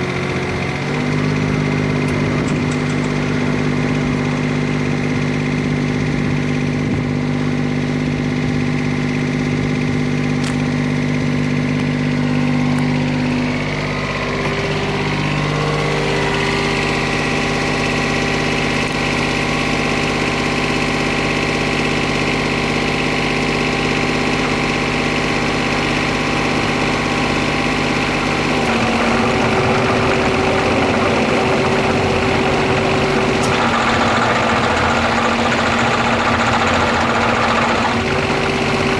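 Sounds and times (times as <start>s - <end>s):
engine whine: 0.0s - 38.9s
excavator diesel engine running: 0.0s - 38.9s.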